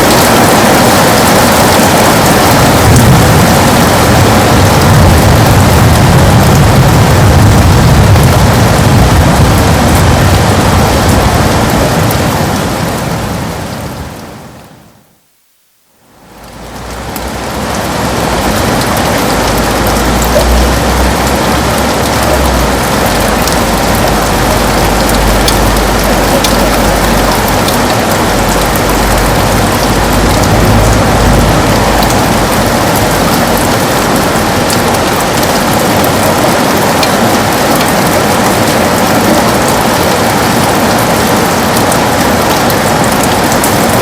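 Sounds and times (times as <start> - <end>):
heavy rain on a window: 0.0 - 44.0.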